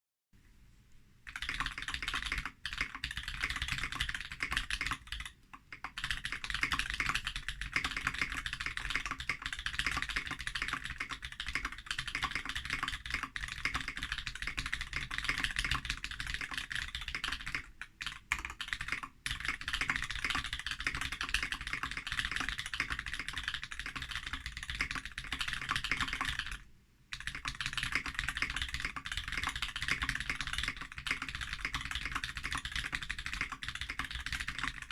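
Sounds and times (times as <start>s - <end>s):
fast typing on mechanical keyboard: 1.3s - 34.9s.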